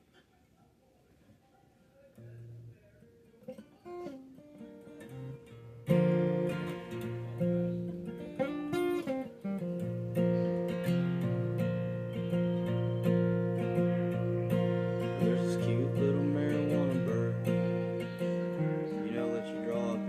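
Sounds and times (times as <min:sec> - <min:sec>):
acoustic guitar playing: 0:02.2 - 0:20.0.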